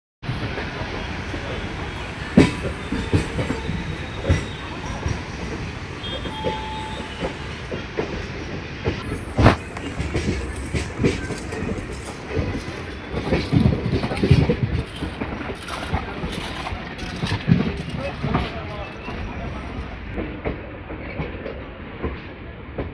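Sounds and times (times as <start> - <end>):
train rumble: 0.2 - 22.9.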